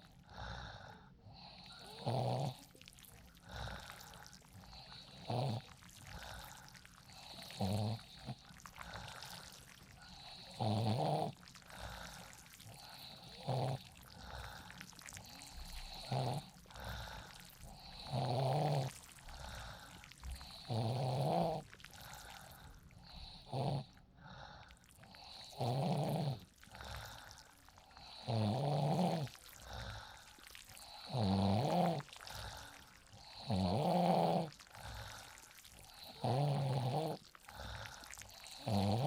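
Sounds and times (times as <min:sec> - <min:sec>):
person snoring: 0:00.0 - 0:39.0.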